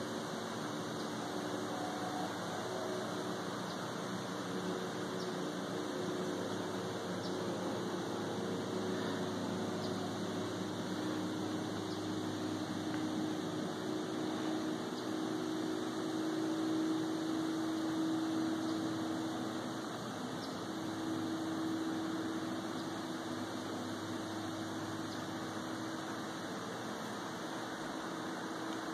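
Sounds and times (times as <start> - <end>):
mechanical hum over hiss: 0.0 - 28.9.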